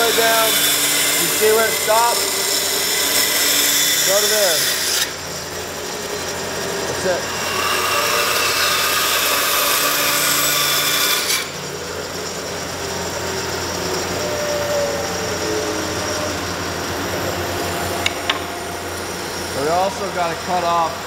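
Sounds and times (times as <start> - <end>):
band saw cutting wood: 0.0 - 21.0
band saw humming: 0.0 - 21.0.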